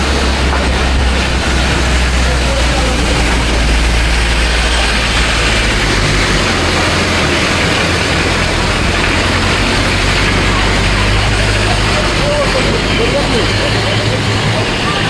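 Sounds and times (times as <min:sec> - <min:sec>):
continuous rushing noise: 0:00.0 - 0:15.0
vehicle engine running: 0:00.0 - 0:15.0.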